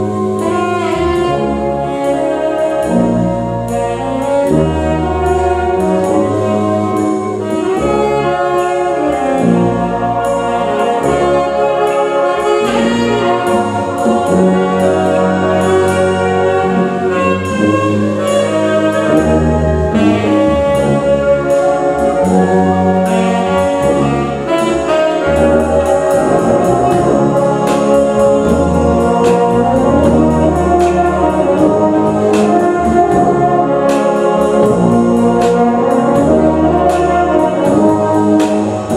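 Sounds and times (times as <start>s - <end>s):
drum kit beat: 0.0s - 38.9s
wind band playing pop: 0.0s - 38.9s.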